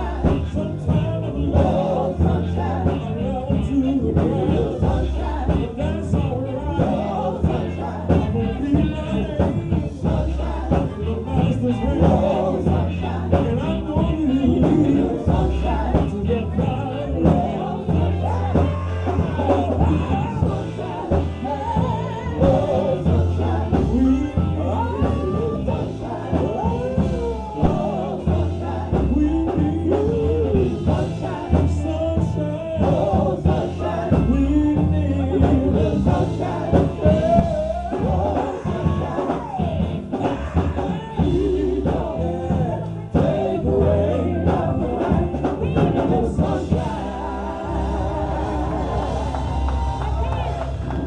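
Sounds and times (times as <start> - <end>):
band with drums and bass: 0.0 - 51.0
gospel group singing: 0.0 - 51.0.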